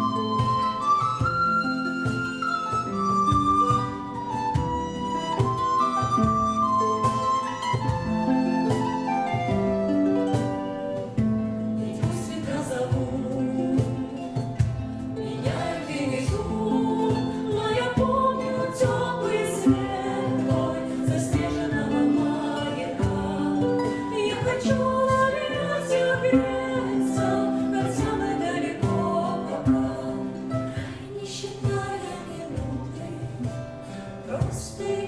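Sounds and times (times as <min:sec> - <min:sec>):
instrumental accompaniment: 0:00.0 - 0:35.0
people singing: 0:00.0 - 0:35.0.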